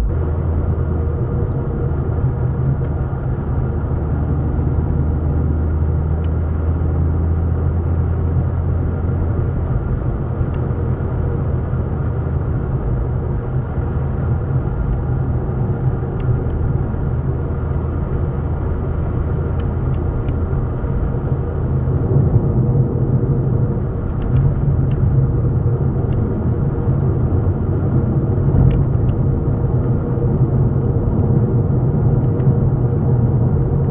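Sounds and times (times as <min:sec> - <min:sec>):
motor vehicle rumble: 0:00.0 - 0:33.9.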